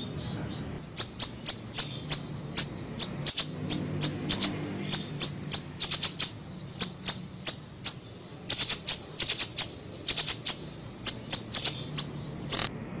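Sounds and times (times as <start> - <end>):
bird chirping: 0.0 - 12.7.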